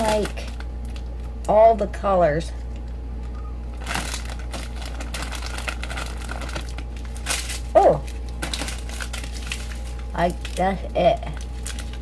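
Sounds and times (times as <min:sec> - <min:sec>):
plastic bags crinkling: 0:00.0 - 0:01.5, 0:03.7 - 0:12.0.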